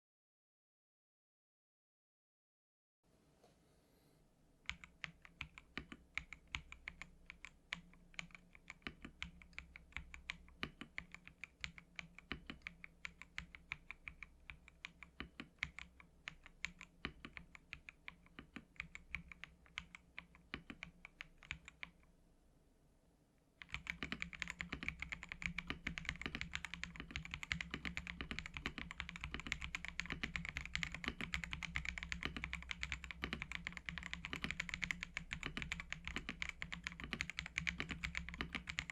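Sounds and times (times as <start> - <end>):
mechanical keyboard typing: 4.7 - 22.0, 23.6 - 38.9.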